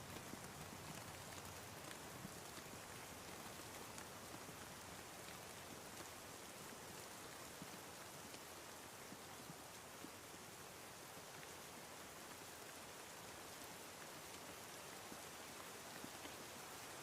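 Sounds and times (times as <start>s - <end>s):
faint steady rain: 0.0s - 17.0s.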